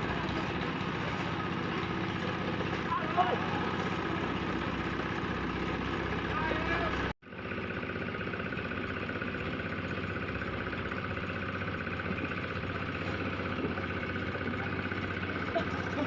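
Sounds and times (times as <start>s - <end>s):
engine running with low throb: 0.0s - 16.0s.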